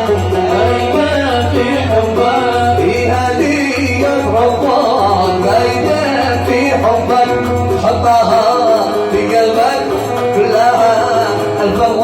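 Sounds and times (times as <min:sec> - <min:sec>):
plucked oud melody: 0:00.0 - 0:12.0.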